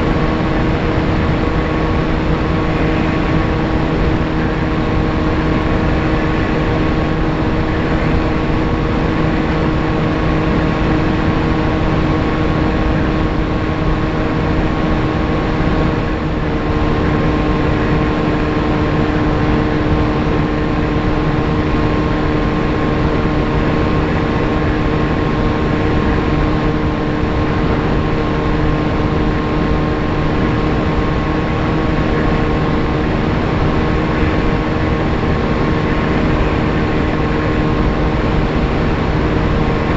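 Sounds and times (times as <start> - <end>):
electric motor and propeller humming: 0.0 - 39.9
heavy wind rush: 0.0 - 39.9.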